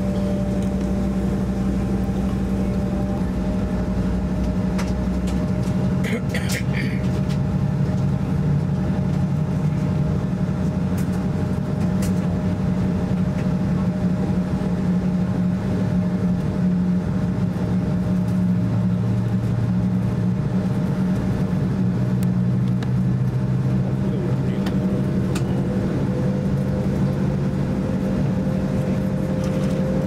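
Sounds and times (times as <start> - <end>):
airliner cabin drone: 0.0 - 30.0
low hum tones: 0.0 - 30.0.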